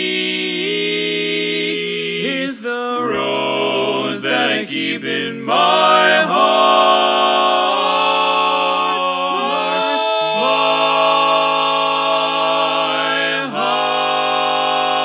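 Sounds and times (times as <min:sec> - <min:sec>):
barbershop harmony a cappella: 0:00.0 - 0:15.0.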